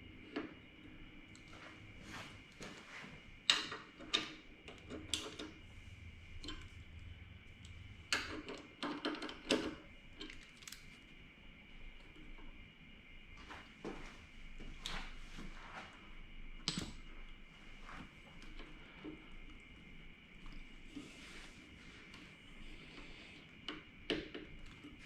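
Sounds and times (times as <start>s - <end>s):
faint high hum: 0.0s - 25.0s.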